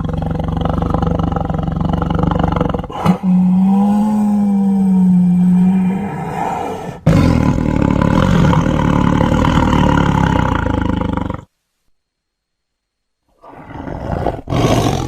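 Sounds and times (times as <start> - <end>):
tiger roaring: 0.0 - 11.5, 13.4 - 15.0.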